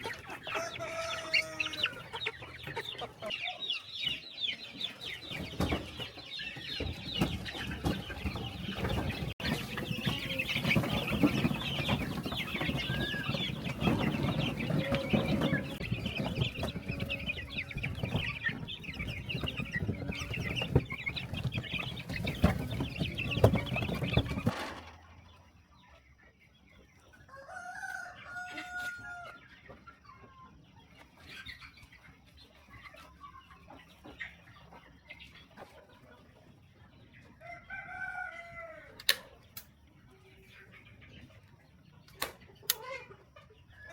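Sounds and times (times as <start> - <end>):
chickens clucking and squawking: 0.0 - 43.9.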